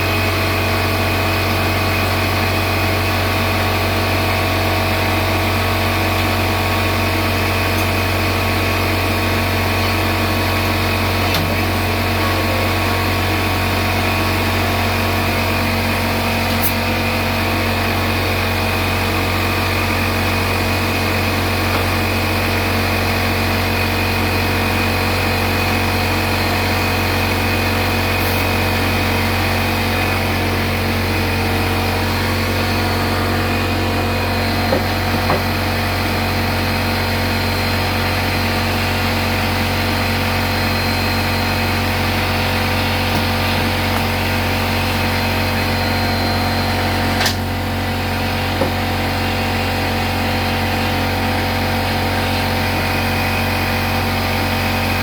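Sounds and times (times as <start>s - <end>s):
machine hum with low drone: 0.0s - 55.0s.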